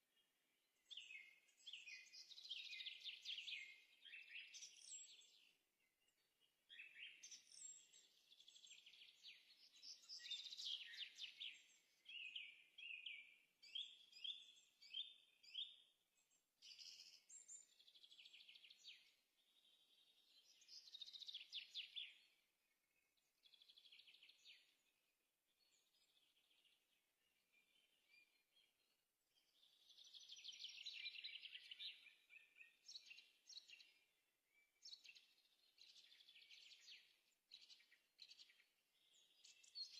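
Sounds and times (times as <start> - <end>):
faint birdsong twittering: 0.0 - 39.9.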